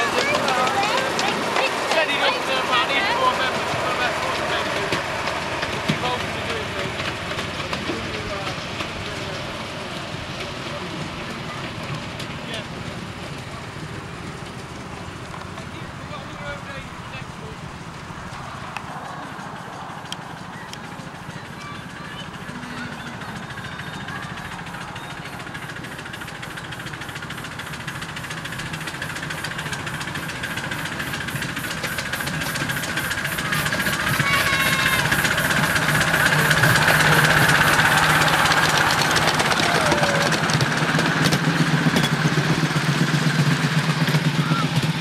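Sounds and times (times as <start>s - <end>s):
steam locomotive exhaust beating: 0.0s - 45.0s
train wheels on track: 0.0s - 45.0s.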